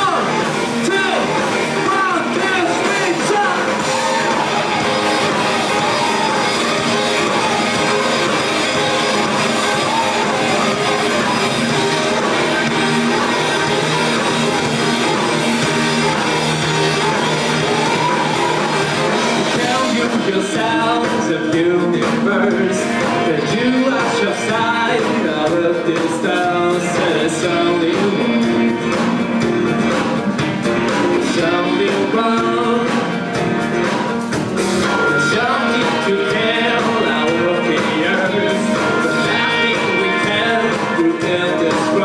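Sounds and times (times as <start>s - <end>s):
electric guitar: 0.0s - 42.0s
live rock band playing: 0.0s - 42.0s.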